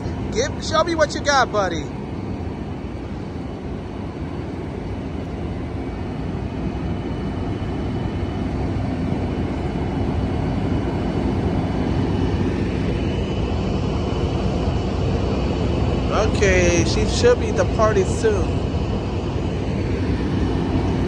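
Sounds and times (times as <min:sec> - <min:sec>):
diesel locomotive engine droning: 0:00.0 - 0:21.0.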